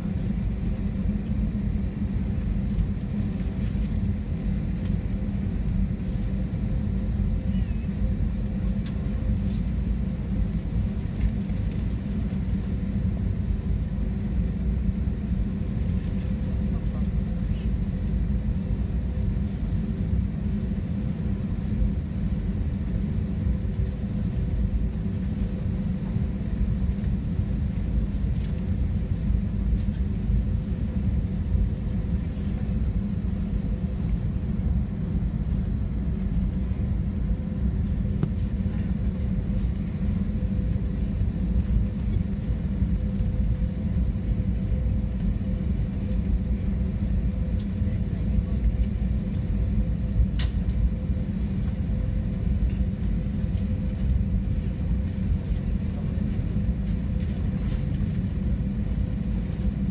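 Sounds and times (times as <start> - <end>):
aircraft engines rumbling: 0.0 - 59.9
faint steady hum: 0.0 - 59.9.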